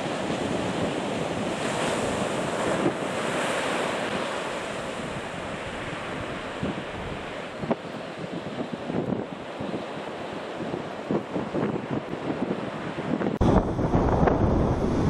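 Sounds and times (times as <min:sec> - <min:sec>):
ocean surf breaking on beach: 0:00.0 - 0:15.0
wind noise on microphone: 0:00.0 - 0:15.0.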